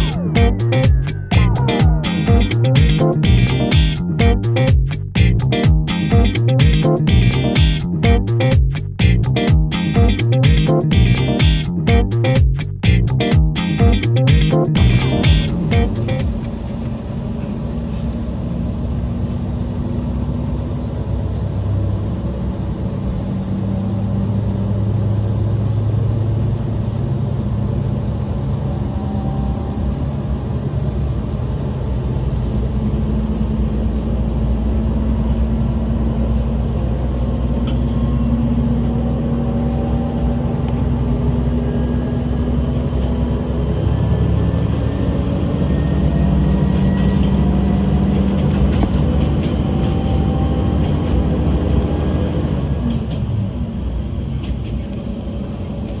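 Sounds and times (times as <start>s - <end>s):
diesel railcar engine drone: 0.0s - 56.0s.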